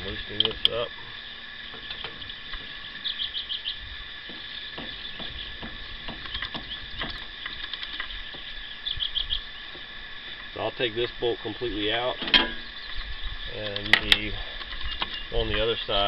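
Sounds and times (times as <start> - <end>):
bird chirping: 0.0 - 16.0
insect drone: 0.0 - 16.0.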